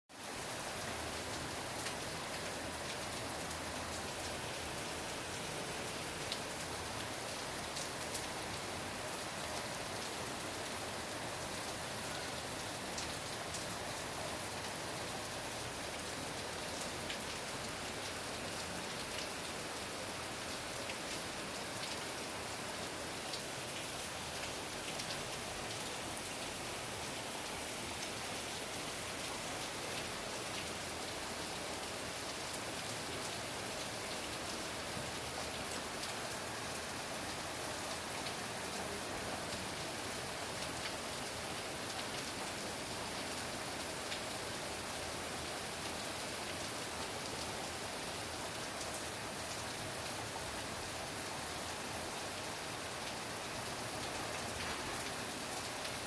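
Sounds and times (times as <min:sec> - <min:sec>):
steady hiss with faint ticks: 0:01.1 - 0:10.6, 0:12.9 - 0:22.5, 0:23.2 - 0:56.0.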